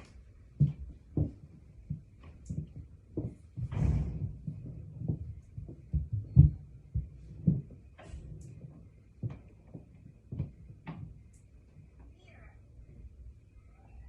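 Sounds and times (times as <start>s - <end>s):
muffled thumps and knocks: 0.0s - 12.0s.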